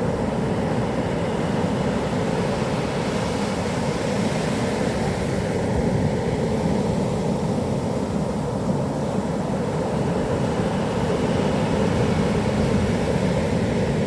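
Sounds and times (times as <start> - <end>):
waves breaking on a beach: 0.0 - 14.0.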